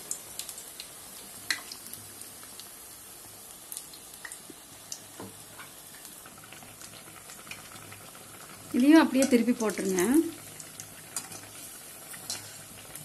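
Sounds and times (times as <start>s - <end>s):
deep-frying sizzle: 0.0s - 13.0s
oil popping and crackling: 0.0s - 13.0s.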